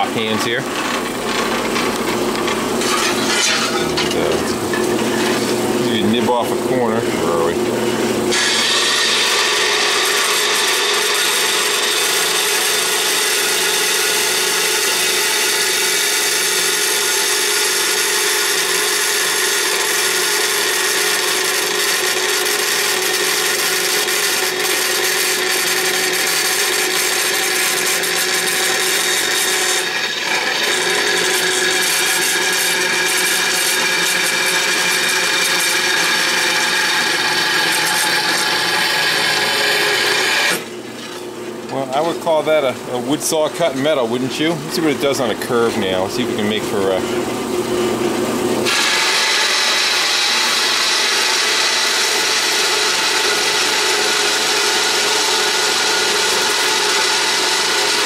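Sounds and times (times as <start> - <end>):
bandsaw cutting steel plate: 0.0 - 46.0, 48.6 - 58.0.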